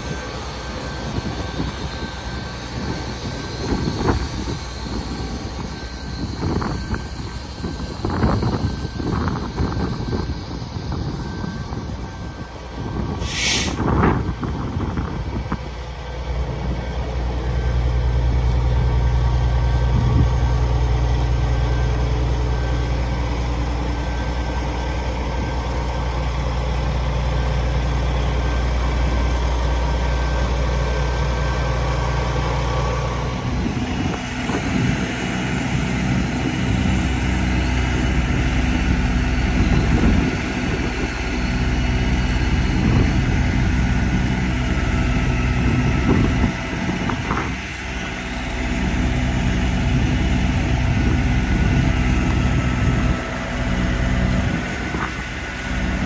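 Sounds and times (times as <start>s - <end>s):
diesel truck engine idling: 0.0s - 56.0s
hydraulic boom whine: 0.0s - 56.0s.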